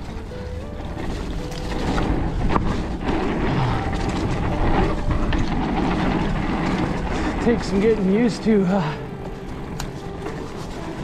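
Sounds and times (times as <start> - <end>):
bike clicks and rattles: 0.0 - 11.0
bike tyres rumbling over dirt: 0.0 - 11.0
wind buffeting microphone: 0.0 - 11.0.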